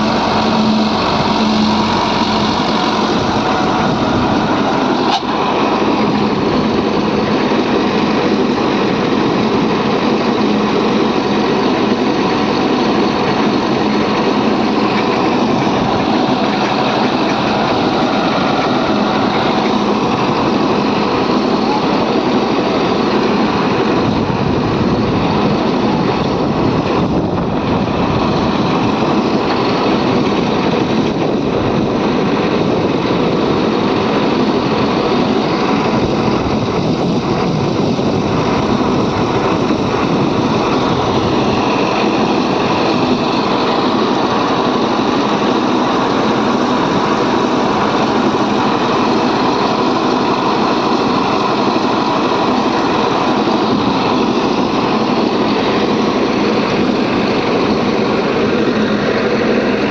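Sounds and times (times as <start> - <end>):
diesel engine running loudly: 0.0 - 59.9.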